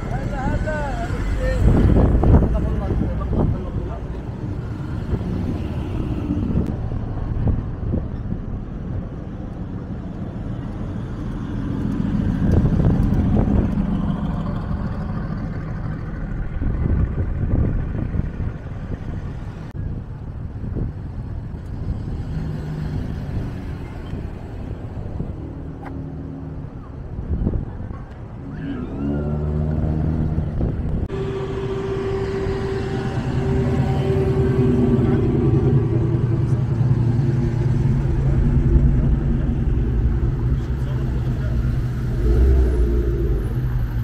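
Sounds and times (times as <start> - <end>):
cars passing by: 0.0 - 44.0.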